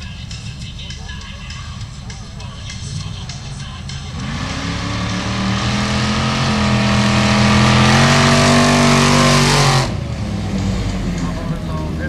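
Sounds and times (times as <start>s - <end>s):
buggy engine accelerating: 0.0s - 12.0s
distant engine: 0.0s - 12.0s.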